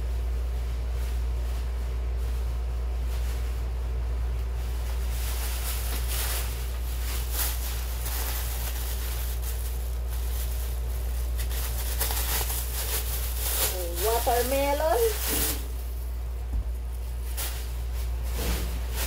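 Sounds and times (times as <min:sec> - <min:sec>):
steady low hum: 0:00.0 - 0:19.0
plastic bag crinkling: 0:00.1 - 0:19.0.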